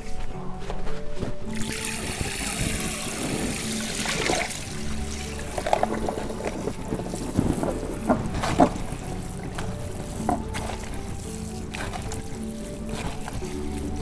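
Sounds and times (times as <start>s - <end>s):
background music: 0.0s - 14.0s
tap water running into colander: 1.6s - 14.0s.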